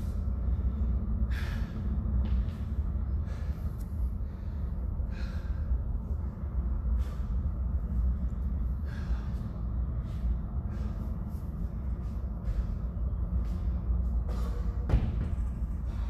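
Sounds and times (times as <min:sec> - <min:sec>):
man gasping breaths: 0:00.0 - 0:14.9, 0:15.5 - 0:16.0
steady low rumble: 0:00.0 - 0:16.0.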